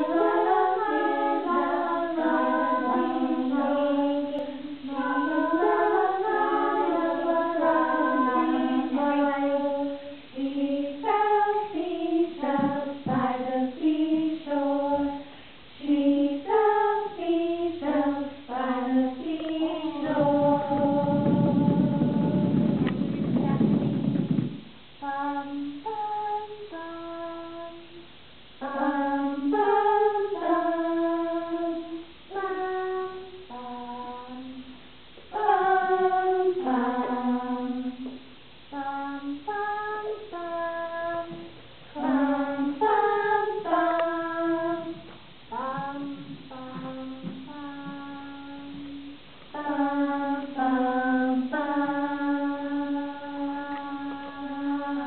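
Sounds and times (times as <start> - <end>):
women singing children's song: 0.0 - 55.0.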